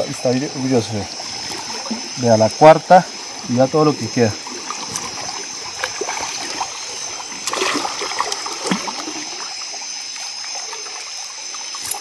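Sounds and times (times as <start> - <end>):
water sloshing: 0.0 - 12.0
water splashing and trickling: 0.0 - 12.0.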